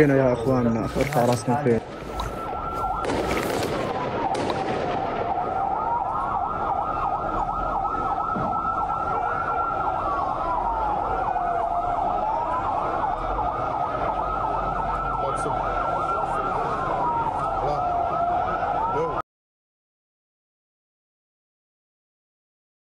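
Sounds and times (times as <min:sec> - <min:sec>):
siren wailing: 0:00.0 - 0:19.2
siren yelping warble: 0:00.0 - 0:19.2.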